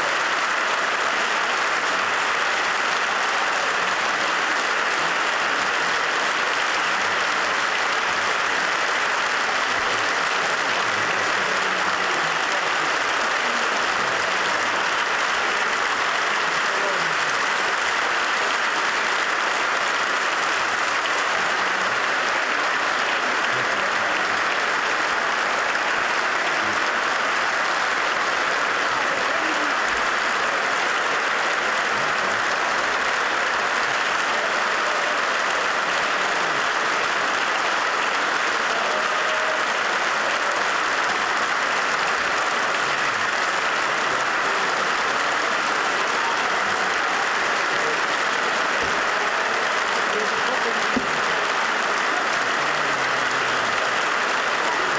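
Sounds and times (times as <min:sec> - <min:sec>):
crowd applause: 0:00.0 - 0:54.9
faint voices: 0:00.0 - 0:54.9.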